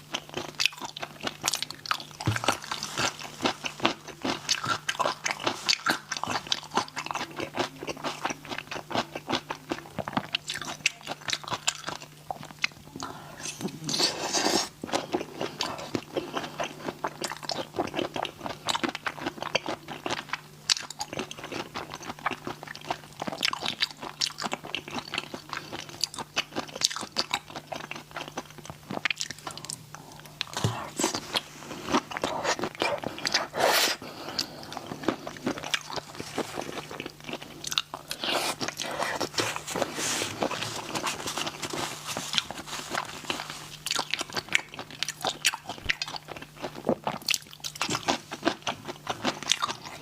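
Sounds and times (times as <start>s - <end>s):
shrimp being bitten and chewed: 0.1s - 12.8s, 14.8s - 50.0s.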